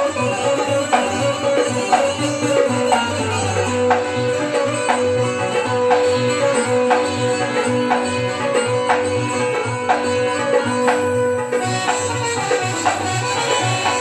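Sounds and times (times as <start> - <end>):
dholak drum beat: 0.0 - 14.0
electronic keyboard melody: 0.0 - 14.0.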